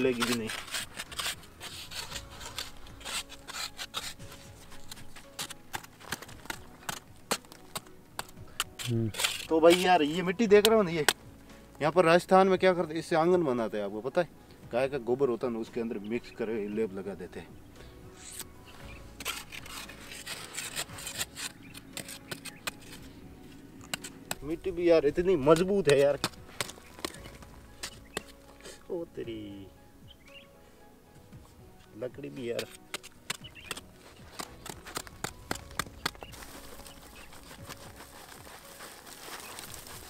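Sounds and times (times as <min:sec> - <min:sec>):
stick scraping hard earth: 0:00.0 - 0:12.3, 0:17.8 - 0:29.6, 0:31.4 - 0:40.0
loose soil sliding: 0:00.0 - 0:13.8, 0:14.7 - 0:29.7, 0:31.4 - 0:40.0.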